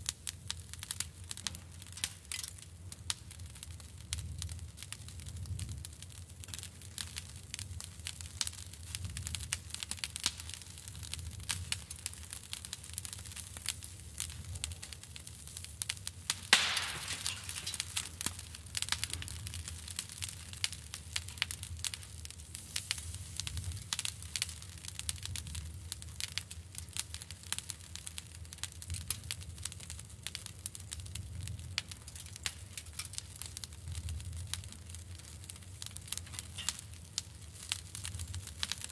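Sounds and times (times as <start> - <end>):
charcoal embers crackling and popping: 0.0 - 38.9.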